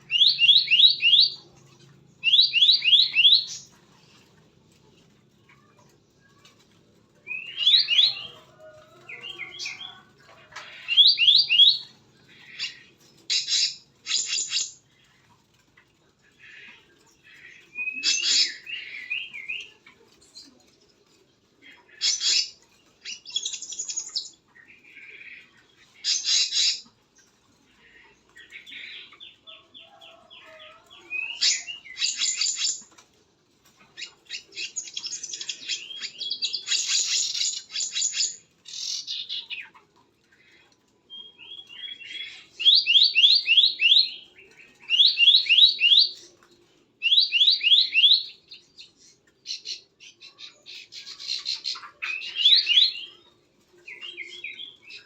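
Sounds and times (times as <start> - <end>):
birds chirping and trilling: 0.0 - 55.0.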